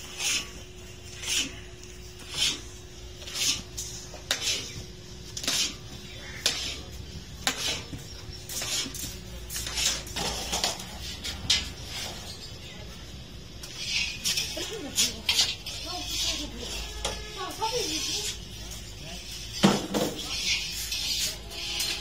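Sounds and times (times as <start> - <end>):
metal stirrer scraping iron pan: 0.0 - 12.5, 13.6 - 22.0.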